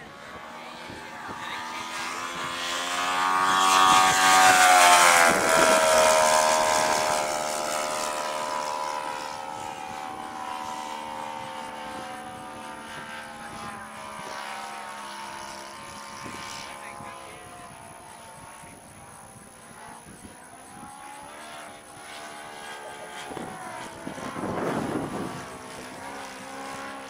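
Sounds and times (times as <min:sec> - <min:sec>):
model airplane engine passing by: 0:00.0 - 0:27.0.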